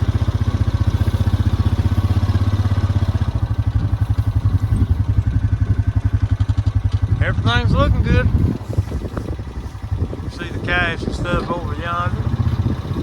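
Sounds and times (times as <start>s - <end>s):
vehicle engine throbbing: 0.0s - 13.0s.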